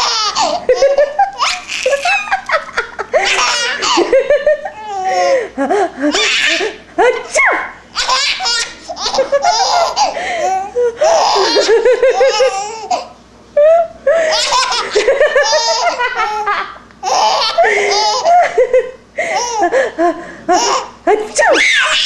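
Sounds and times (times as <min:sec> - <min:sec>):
baby laughing: 0:00.0 - 0:22.0.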